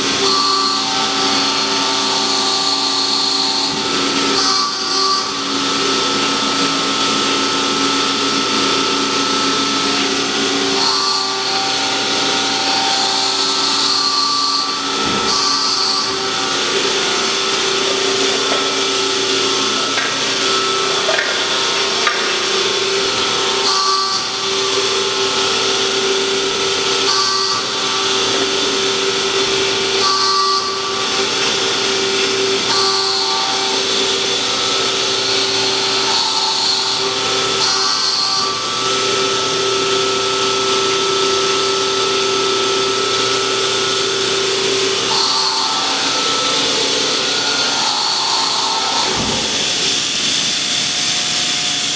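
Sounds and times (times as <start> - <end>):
hydraulic power unit humming: 0.0 - 51.9.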